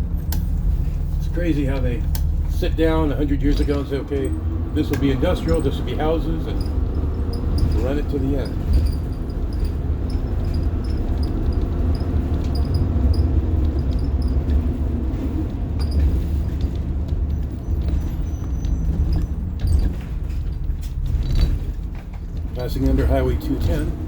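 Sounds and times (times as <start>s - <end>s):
bus diesel engine running: 0.0s - 24.0s
road and drivetrain noise: 0.0s - 24.0s.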